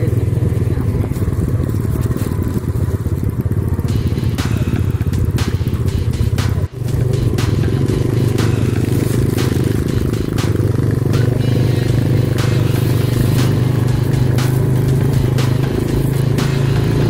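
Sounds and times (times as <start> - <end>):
motorcycle clattering on rough road: 0.0 - 17.0
motorcycle engine running: 0.0 - 17.0.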